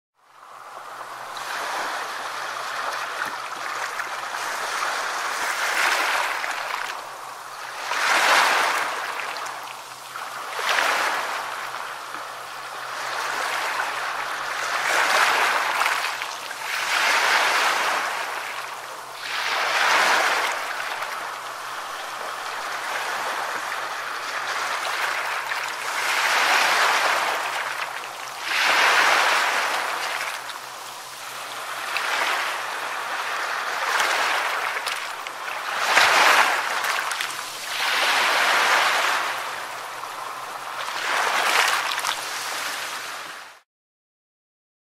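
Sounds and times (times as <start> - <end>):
sea waves breaking on shore: 0.2 - 43.6.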